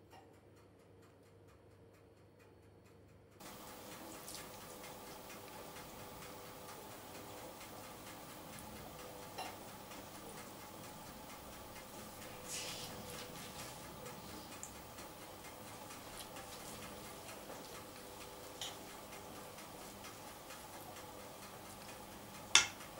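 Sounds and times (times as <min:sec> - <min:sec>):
pastry brush dabbing crisp pastry: 0:03.4 - 0:22.9.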